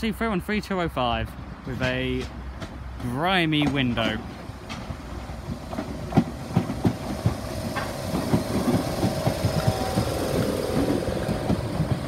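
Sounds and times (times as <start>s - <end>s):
train hum: 0.0s - 12.0s
train wheels clacking over rail joints: 1.7s - 12.0s.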